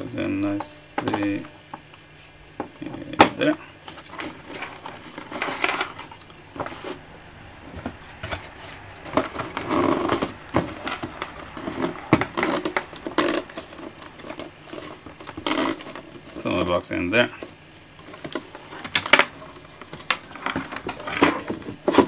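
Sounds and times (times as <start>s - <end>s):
scraping rustles: 3.8s - 22.0s.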